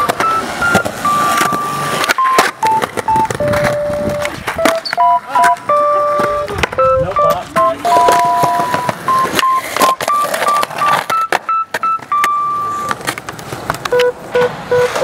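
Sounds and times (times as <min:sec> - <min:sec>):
electronic beeping melody: 0:00.0 - 0:13.0, 0:13.9 - 0:15.0.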